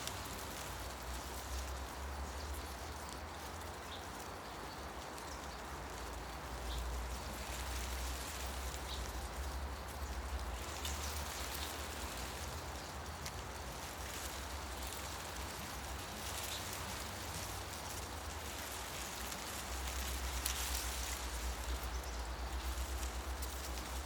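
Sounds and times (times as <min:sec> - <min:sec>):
low wind rumble: 0:00.0 - 0:24.0
wind rustling leaves: 0:00.0 - 0:24.0.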